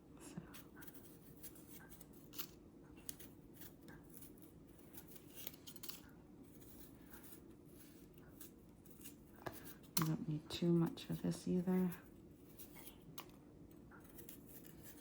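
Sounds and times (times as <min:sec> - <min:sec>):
tool scraping ginger skin: 0:00.5 - 0:13.3, 0:14.0 - 0:15.0.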